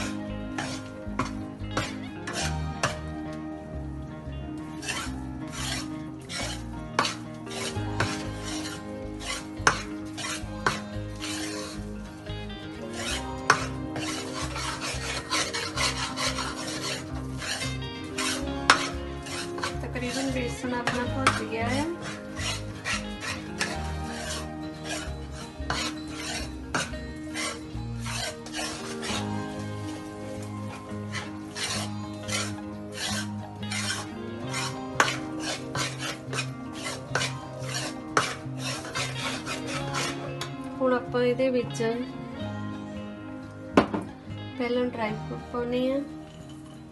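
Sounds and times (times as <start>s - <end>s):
metal ladle scraping pan: 0.0s - 3.1s, 4.6s - 40.7s.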